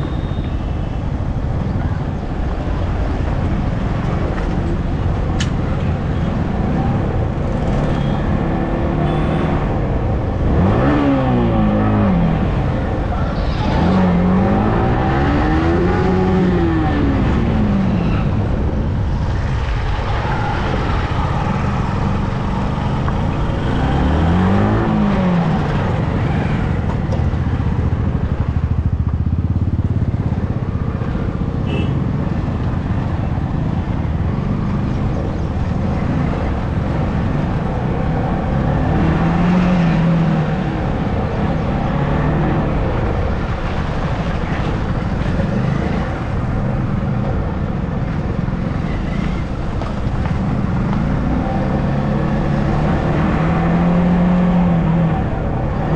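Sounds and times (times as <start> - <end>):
traffic noise: 0.0 - 55.9.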